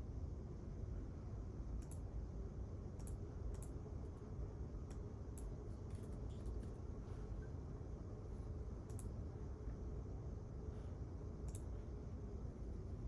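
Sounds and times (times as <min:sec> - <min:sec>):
low room rumble: 0:00.0 - 0:13.0.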